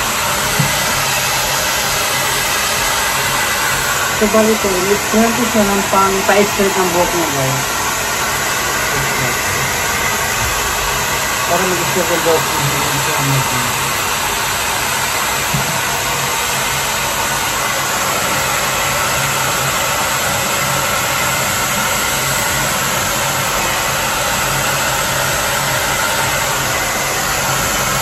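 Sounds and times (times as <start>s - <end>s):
hair dryer blowing air: 0.0s - 28.0s.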